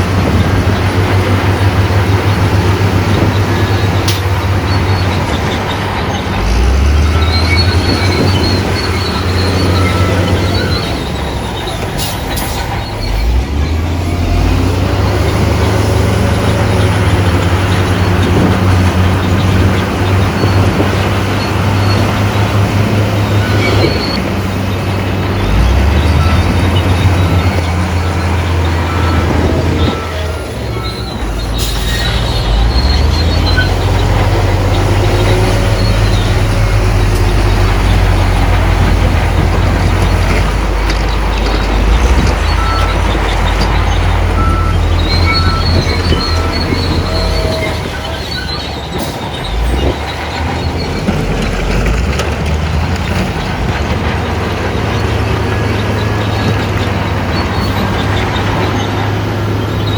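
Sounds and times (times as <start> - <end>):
bulldozer diesel engine droning: 0.0 - 59.9
steel tracks squealing: 0.0 - 59.9.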